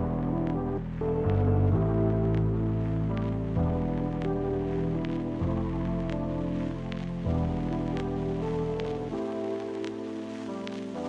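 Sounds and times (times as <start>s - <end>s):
lo-fi ambient music: 0.0s - 11.0s.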